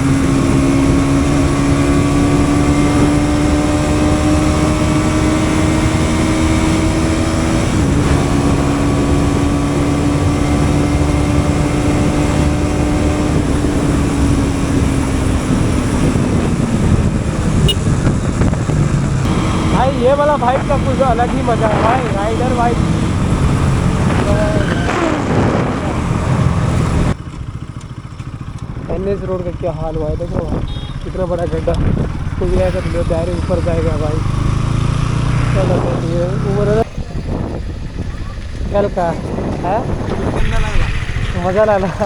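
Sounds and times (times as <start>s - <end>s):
motorcycle engine running hard: 0.0s - 42.0s.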